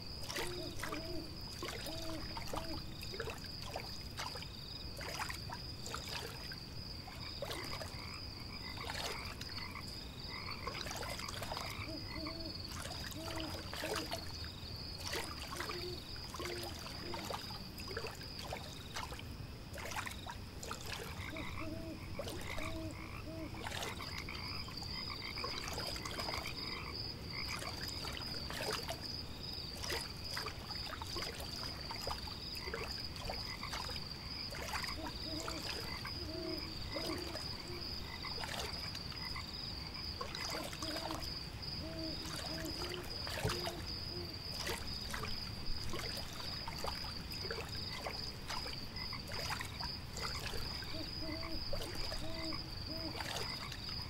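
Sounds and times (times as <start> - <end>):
frogs croaking: 0.0 - 54.0
low background hiss: 0.0 - 54.0.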